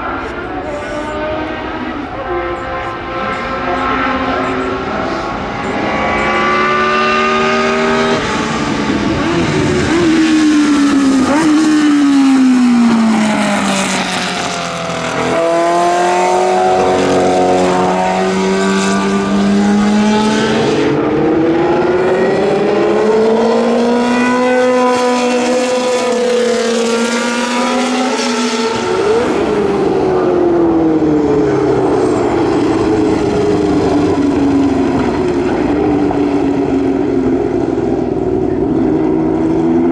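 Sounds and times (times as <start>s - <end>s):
racing car engines at high revs: 0.0s - 39.9s.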